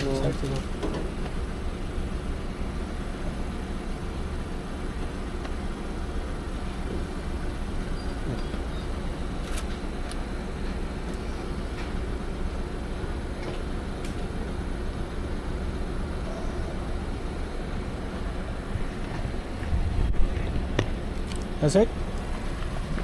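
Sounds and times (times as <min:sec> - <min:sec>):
car idling: 0:00.0 - 0:23.0.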